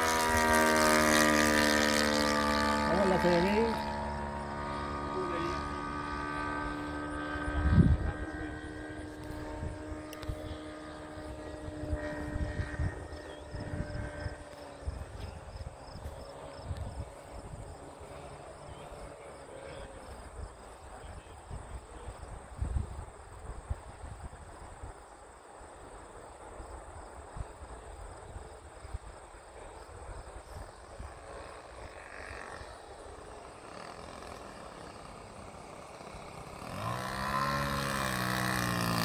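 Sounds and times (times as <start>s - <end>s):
distant model airplane engine droning: 0.0s - 39.0s
wind rumbling on microphone: 0.0s - 39.0s.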